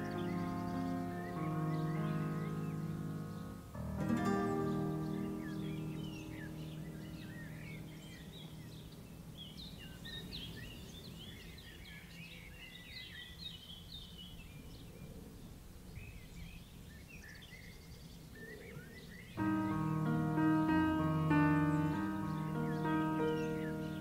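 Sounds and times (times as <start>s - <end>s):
faint low background noise: 0.0s - 24.0s
small birds chirping: 0.0s - 24.0s.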